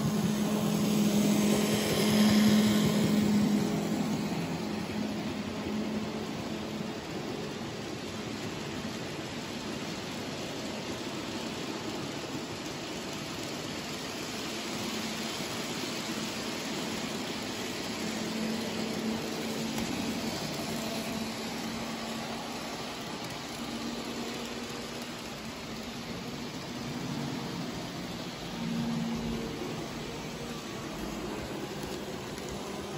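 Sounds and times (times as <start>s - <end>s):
model train wheels rushing: 0.0s - 32.9s.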